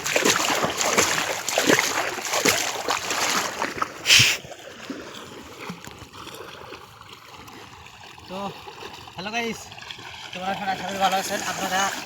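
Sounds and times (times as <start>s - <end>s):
water splashing from wading: 0.0s - 12.0s.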